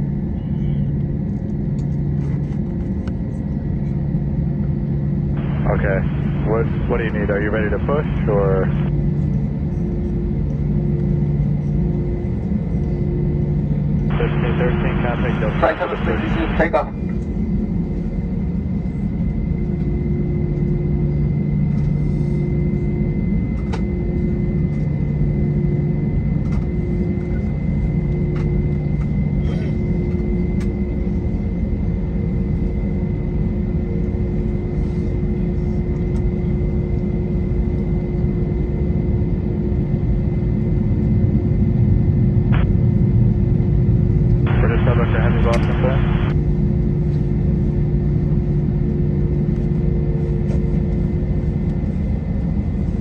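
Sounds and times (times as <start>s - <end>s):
aircraft cabin rumble and hum: 0.0s - 53.0s
faint steady whine: 0.0s - 53.0s.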